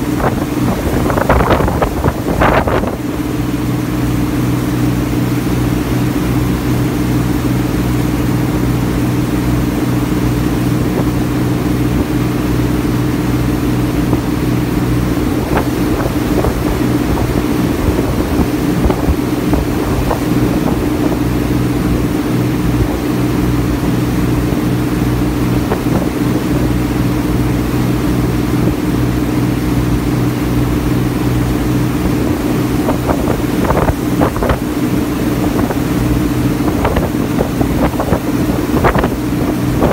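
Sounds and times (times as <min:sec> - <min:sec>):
ferry engine droning: 0:00.0 - 0:39.9.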